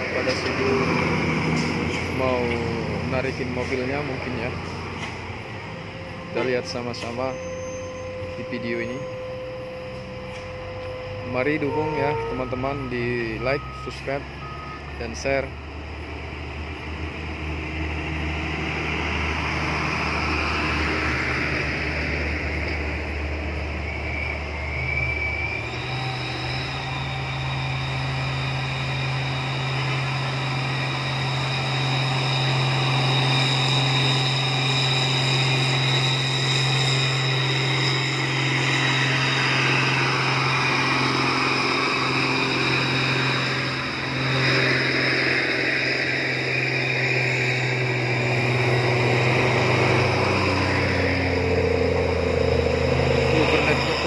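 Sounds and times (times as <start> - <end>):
thin high whine: 0.0 - 16.0, 17.2 - 54.0
truck diesel engine revving: 0.0 - 54.0.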